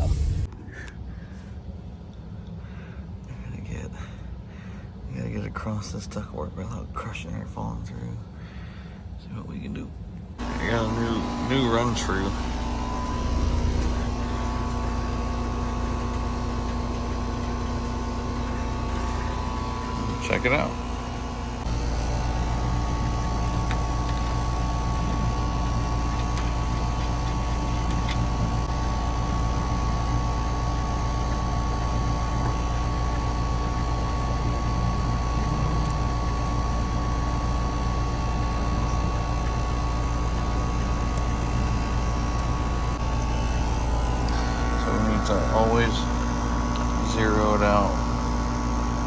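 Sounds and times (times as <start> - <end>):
air conditioner humming: 0.0 - 49.0.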